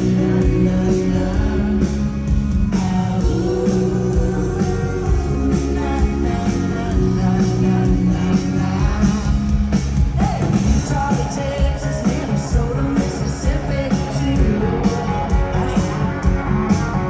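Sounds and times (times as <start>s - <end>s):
live band playing country-pop: 0.0s - 17.0s.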